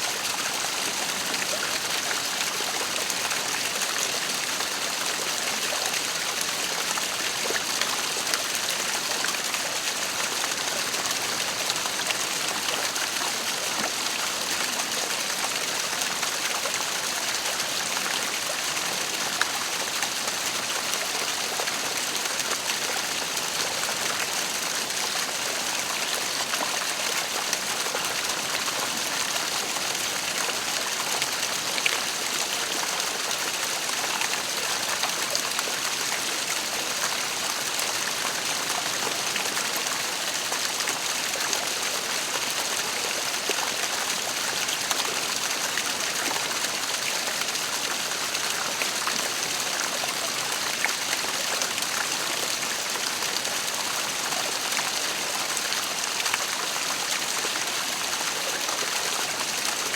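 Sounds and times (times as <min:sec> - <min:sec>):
waterfall pouring and splashing: 0:00.0 - 0:59.9.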